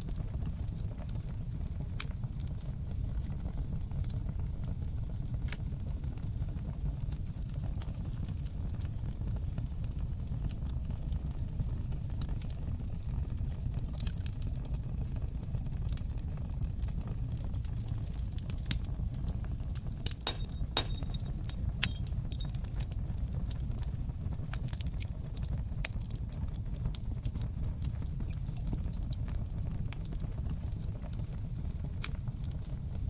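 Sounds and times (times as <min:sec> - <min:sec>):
fire flames rumbling: 0:00.0 - 0:33.0
wood crackling and popping: 0:00.0 - 0:33.0.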